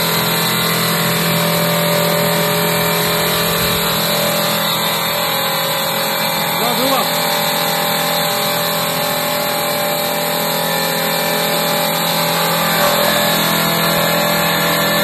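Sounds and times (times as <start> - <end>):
stone cutting machine humming: 0.0 - 15.0.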